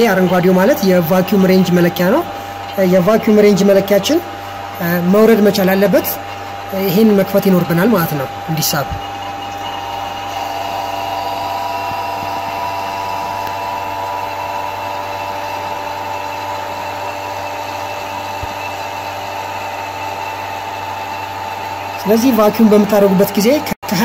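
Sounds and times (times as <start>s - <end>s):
vacuum pump humming and whining: 0.0s - 24.0s.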